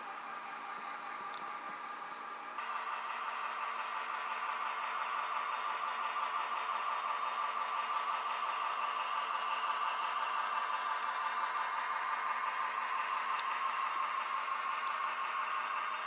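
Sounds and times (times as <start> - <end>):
model train diesel engine sound: 0.0 - 16.0.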